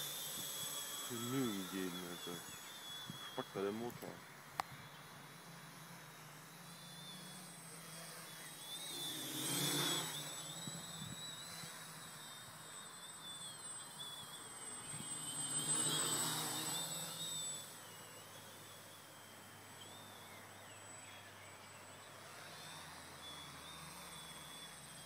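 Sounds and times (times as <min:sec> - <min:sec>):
quadcopter propellers buzzing: 0:00.0 - 0:25.0.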